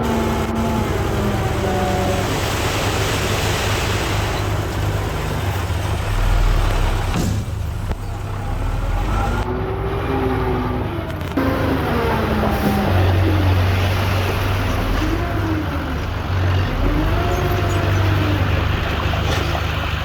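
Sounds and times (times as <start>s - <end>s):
deep engine surge: 0.0s - 20.0s
diesel engine rumbling: 0.0s - 20.0s.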